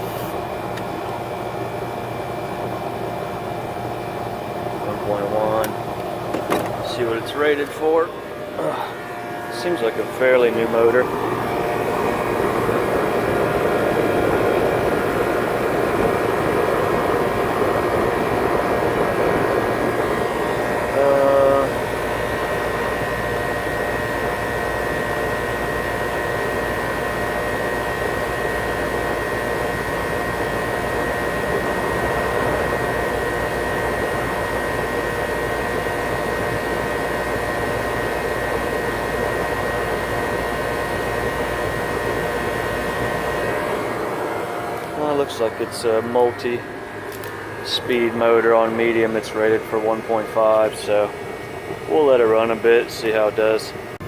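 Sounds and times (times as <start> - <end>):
air conditioner condenser humming: 0.0 - 54.0.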